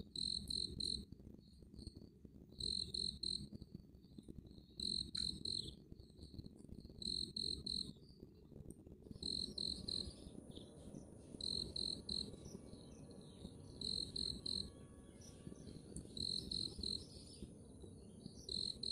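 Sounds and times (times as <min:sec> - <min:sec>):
cricket chirping: 0:00.0 - 0:08.5, 0:09.1 - 0:18.9
faint high insect buzz: 0:00.0 - 0:08.5, 0:09.1 - 0:18.9.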